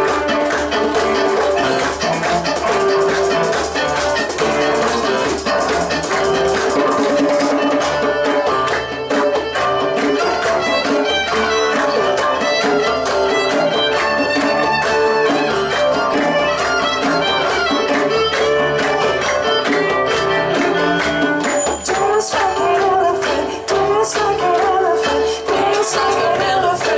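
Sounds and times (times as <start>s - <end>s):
bowed fiddle: 0.0s - 21.8s
strummed acoustic guitar: 0.0s - 23.5s
cello: 0.0s - 26.9s
djembe: 0.0s - 26.9s
drum kit: 0.0s - 26.9s.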